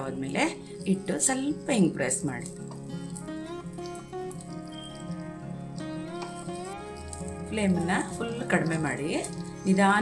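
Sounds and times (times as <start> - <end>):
plucked string instrumental music: 0.6 - 10.0.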